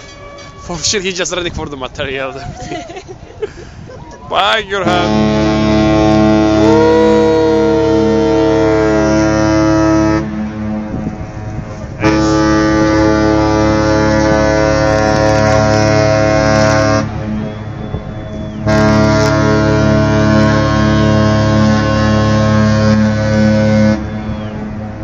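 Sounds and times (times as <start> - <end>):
ship horn blasts: 4.7 - 25.0.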